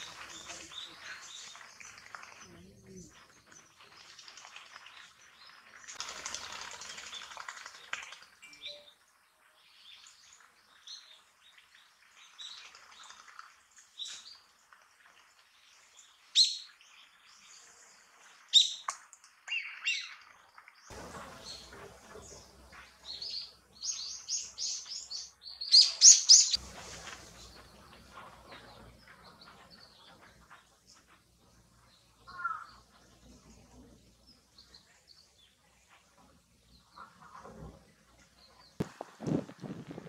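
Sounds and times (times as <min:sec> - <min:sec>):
wild birds chirping: 0:00.0 - 0:40.0.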